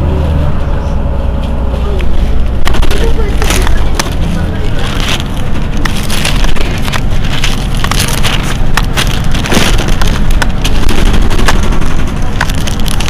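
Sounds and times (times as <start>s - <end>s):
bus engine idling: 0.0s - 13.0s
loud crackling and clicks: 2.0s - 13.0s.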